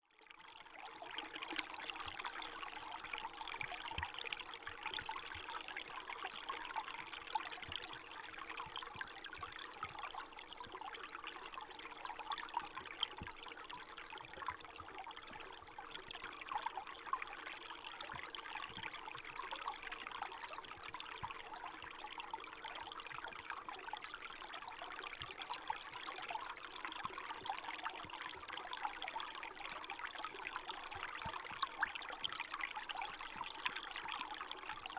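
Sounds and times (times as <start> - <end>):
stream trickling and splashing: 0.2 - 34.9.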